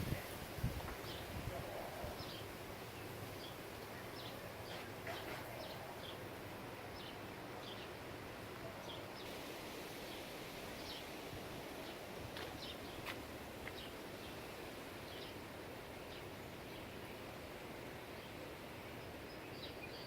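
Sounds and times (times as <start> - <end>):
wind rustling leaves: 0.0 - 20.0.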